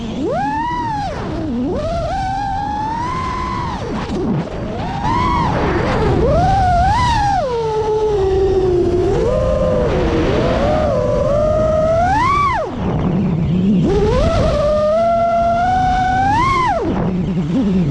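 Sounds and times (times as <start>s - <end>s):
quadcopter motors whining: 0.0s - 17.9s
wind rumble on microphone: 0.0s - 17.9s.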